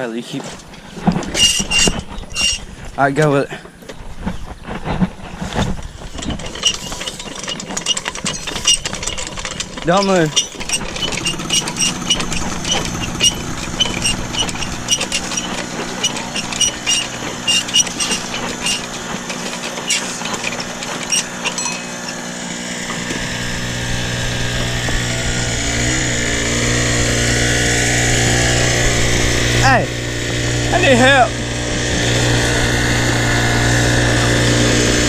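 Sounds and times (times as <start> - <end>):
engine running: 0.4 - 35.0
rapid clicking and rattling: 0.5 - 3.4, 4.2 - 35.0.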